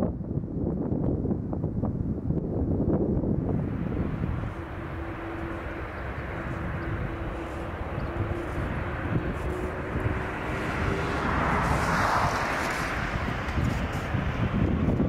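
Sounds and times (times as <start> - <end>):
jet engines roaring at takeoff: 2.4 - 15.0.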